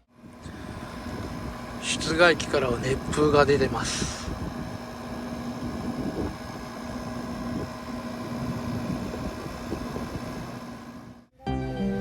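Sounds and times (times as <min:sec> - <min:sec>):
air conditioner fan humming: 0:00.0 - 0:11.3.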